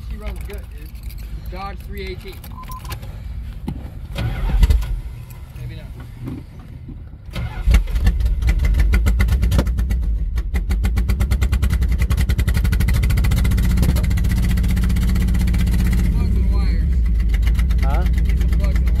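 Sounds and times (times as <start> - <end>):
engine cranking and running: 0.0 - 3.4, 4.1 - 19.0.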